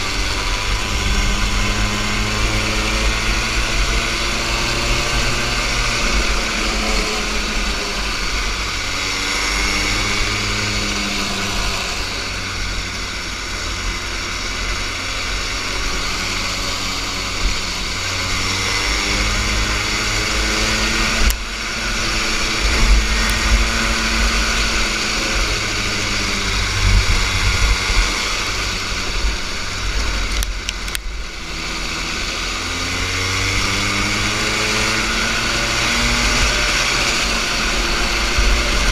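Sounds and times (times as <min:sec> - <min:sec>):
kart engine revving: 0:00.0 - 0:38.9
wind and road noise: 0:00.0 - 0:38.9.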